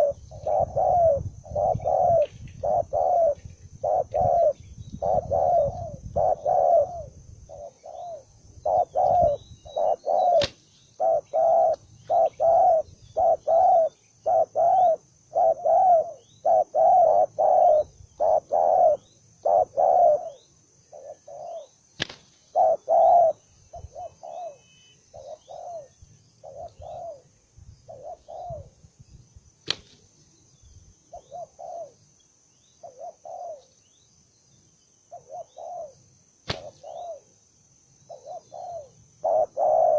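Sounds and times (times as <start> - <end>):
dove cooing: 0.0 - 21.7, 22.5 - 27.3, 27.9 - 28.7, 31.1 - 32.0, 32.8 - 33.7, 35.1 - 37.3, 38.1 - 39.9.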